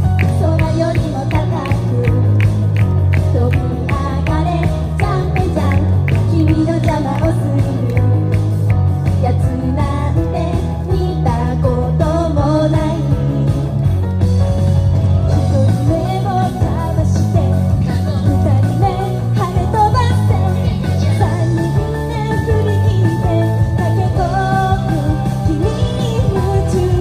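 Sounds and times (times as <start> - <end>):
women singing upbeat pop song: 0.0 - 13.8, 15.4 - 27.0
loud backing track with heavy bass: 0.0 - 27.0.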